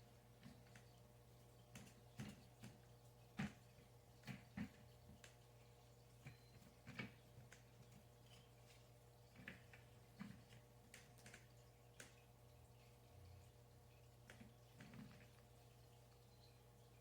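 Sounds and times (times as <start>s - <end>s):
faint irregular clicks and taps: 0.1s - 16.3s.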